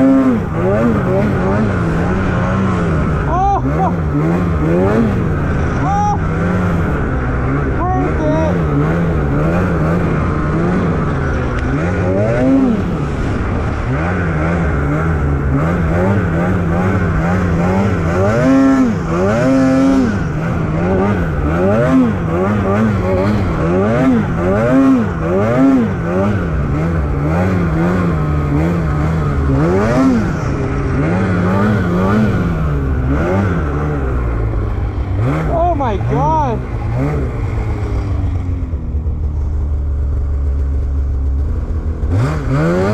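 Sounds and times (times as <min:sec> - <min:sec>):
snowmobile engine revving: 0:00.0 - 0:42.9.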